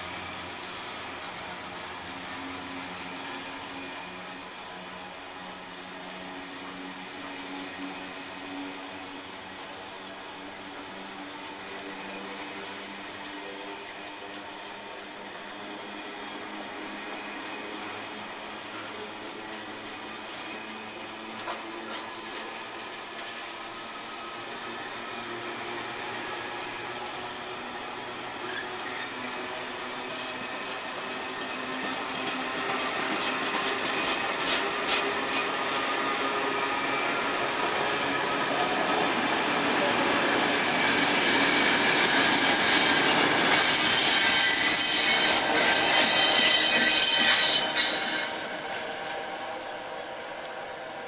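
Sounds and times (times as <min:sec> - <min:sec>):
train wheels squealing on rails: 0:00.0 - 0:51.0.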